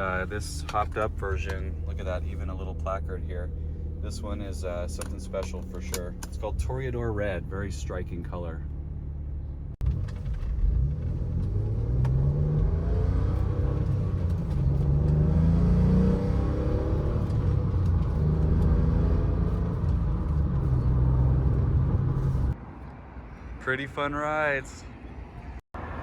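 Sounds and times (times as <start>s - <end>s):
car engine accelerating: 0.0s - 22.6s.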